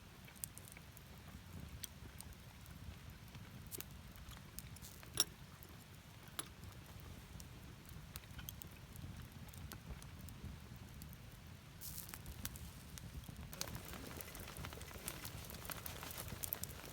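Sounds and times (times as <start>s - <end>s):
campfire crackling and popping: 0.2s - 16.9s.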